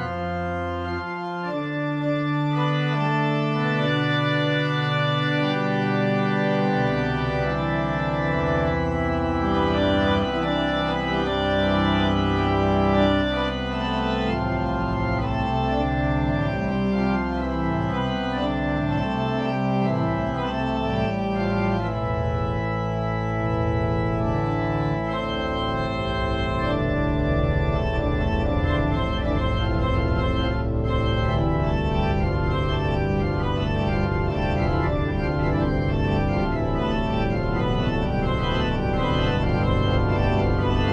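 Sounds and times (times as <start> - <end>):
organ chords with deep bass: 0.0 - 40.9.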